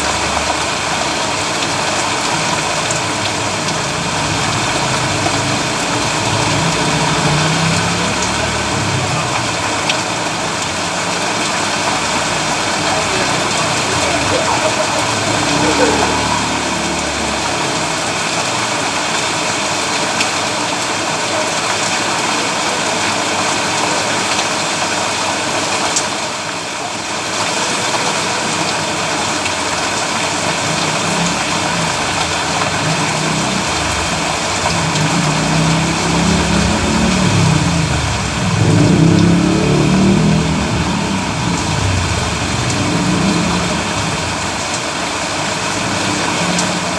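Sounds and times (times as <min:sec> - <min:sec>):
vehicle engine: 0:00.0 - 0:21.9, 0:27.0 - 0:46.9
heavy rain on a road: 0:00.0 - 0:46.9.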